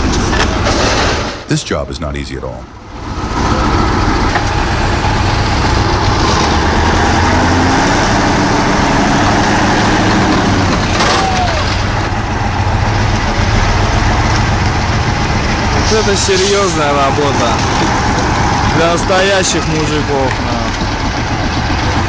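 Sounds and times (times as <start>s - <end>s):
heavy truck engine under load: 0.0s - 1.5s, 2.7s - 22.0s
sharp clatter: 0.0s - 1.6s, 3.0s - 22.0s.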